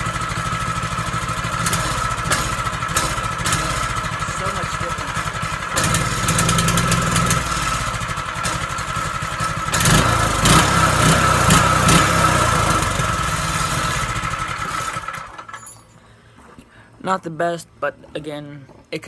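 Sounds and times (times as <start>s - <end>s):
mini bike engine running: 0.0s - 15.6s.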